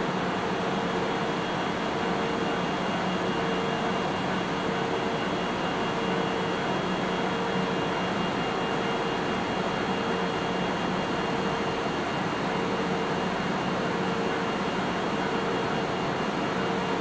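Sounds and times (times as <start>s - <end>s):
locomotive cooling blowers humming: 0.0s - 17.0s.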